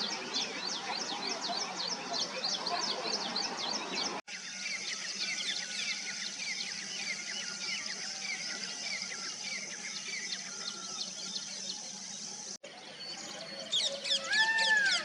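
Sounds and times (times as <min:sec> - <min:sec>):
birds chirping: 0:00.0 - 0:15.0
sweeping bird calls: 0:00.0 - 0:15.0.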